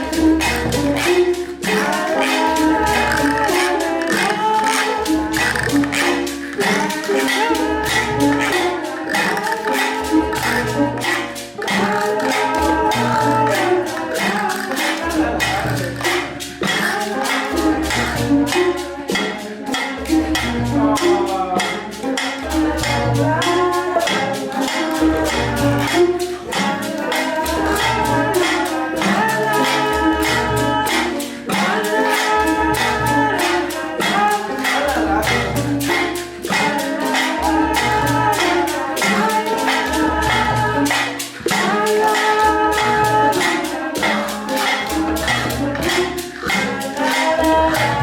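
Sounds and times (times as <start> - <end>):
music with percussive beat and melody: 0.0 - 48.0.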